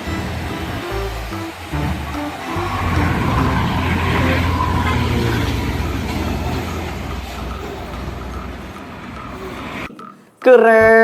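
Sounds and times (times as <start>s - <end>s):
toy truck rumble: 0.0s - 10.2s.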